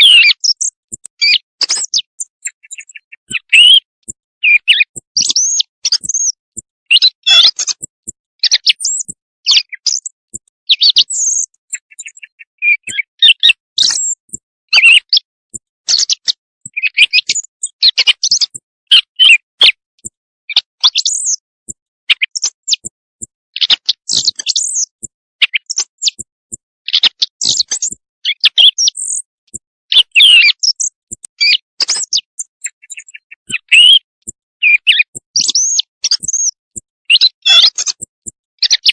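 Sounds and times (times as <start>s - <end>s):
quail calls chirping and trilling: 0.0s - 23.0s, 23.6s - 38.9s.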